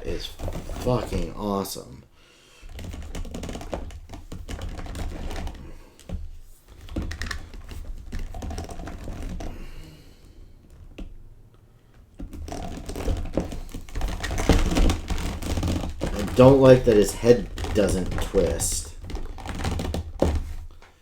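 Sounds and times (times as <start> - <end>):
hard plastic clicking and knocking: 0.0 - 1.4, 2.7 - 9.9, 11.9 - 21.0
dull handling bumps: 0.0 - 1.8, 2.6 - 21.0.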